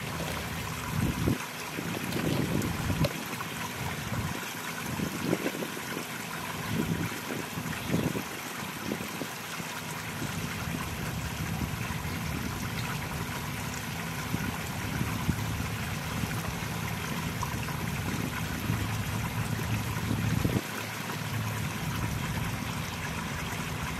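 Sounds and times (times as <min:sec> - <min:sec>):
water splashing into a pond: 0:00.0 - 0:23.9.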